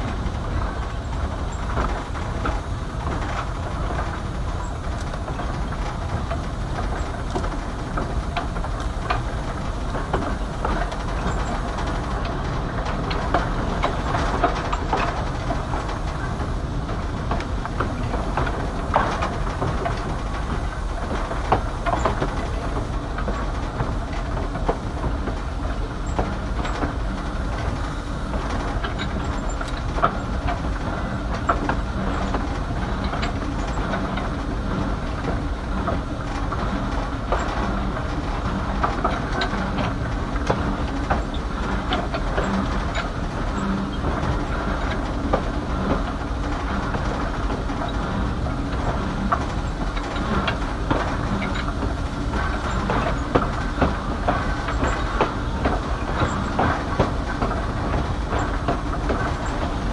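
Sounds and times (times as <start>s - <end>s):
train running noise: 0.0s - 59.9s
wheels clicking over rail joints: 0.0s - 59.9s.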